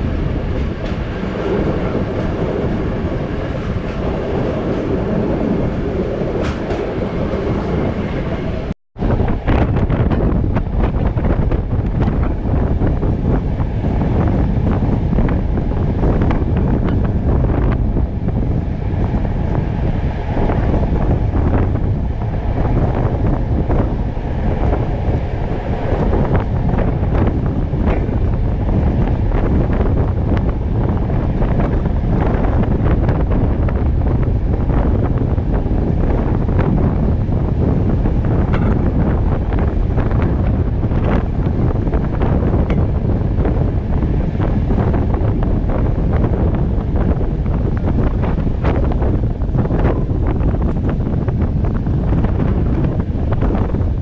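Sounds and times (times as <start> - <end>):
train wheels rumbling on rails: 0.0 - 54.0
wind buffeting microphone: 0.0 - 54.0.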